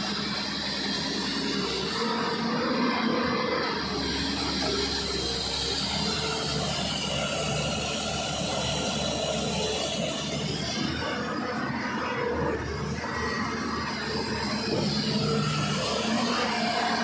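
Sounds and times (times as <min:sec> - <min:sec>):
excavator diesel engine running: 0:00.0 - 0:17.0
excavator hydraulics: 0:00.0 - 0:17.0.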